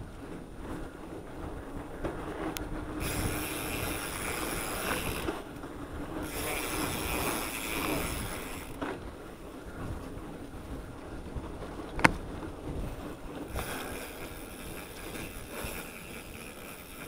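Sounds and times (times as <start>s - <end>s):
bike rattling: 0.0s - 17.0s
tyres rolling on dirt: 0.0s - 17.0s
wind buffeting microphone: 0.0s - 17.0s.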